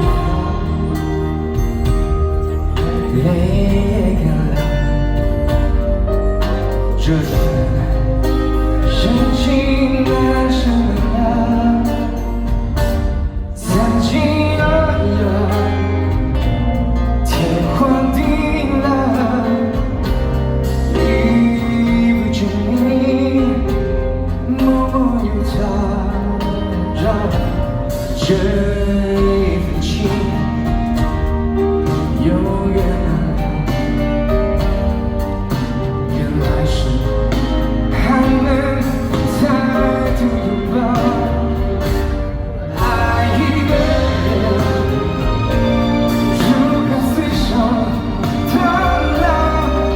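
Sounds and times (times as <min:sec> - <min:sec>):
backing band with heavy bass: 0:00.0 - 0:49.9
man singing live: 0:00.0 - 0:49.9.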